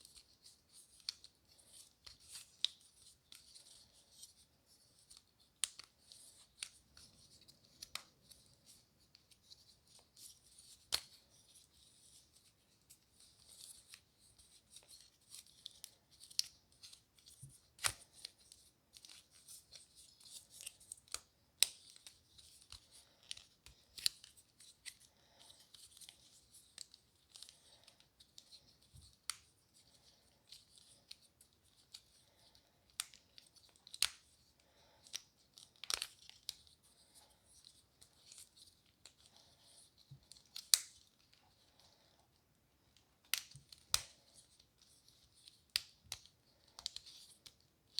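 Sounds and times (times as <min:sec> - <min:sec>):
faint crinkly rustle: 0:00.0 - 0:47.9.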